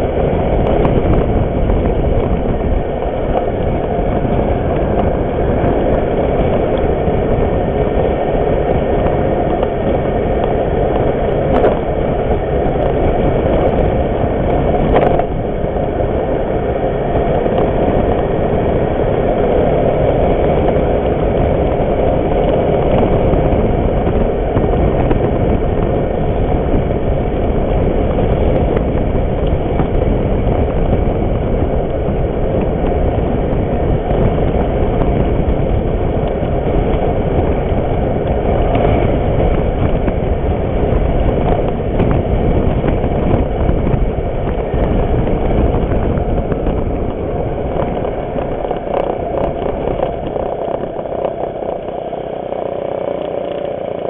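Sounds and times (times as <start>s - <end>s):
wind rushing: 0.0s - 52.6s
scooter engine running: 0.0s - 54.0s.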